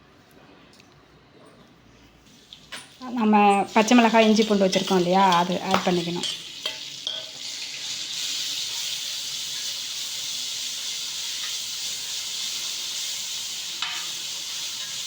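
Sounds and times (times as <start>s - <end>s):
food sizzling in oil: 2.2s - 15.0s.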